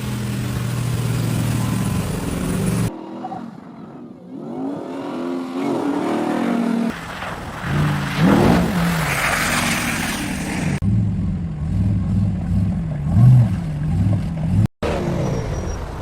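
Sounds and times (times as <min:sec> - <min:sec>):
engine revving: 0:00.0 - 0:07.0, 0:07.6 - 0:15.5.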